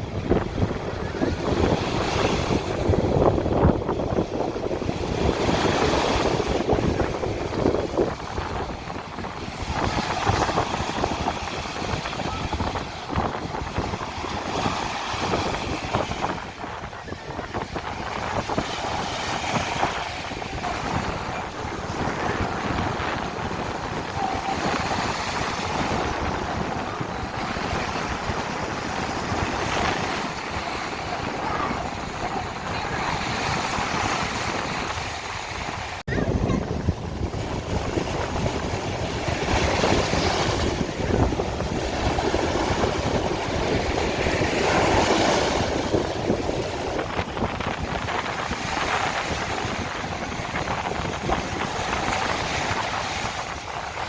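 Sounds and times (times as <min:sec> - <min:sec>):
waves washing onto beach: 0:00.0 - 0:54.0
wind noise on microphone: 0:00.0 - 0:54.0.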